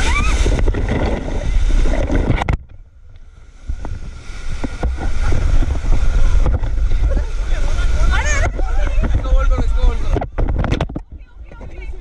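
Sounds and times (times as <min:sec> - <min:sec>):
wind buffeting microphone: 0:00.0 - 0:02.8, 0:03.4 - 0:12.0
rushing river water: 0:00.0 - 0:10.6.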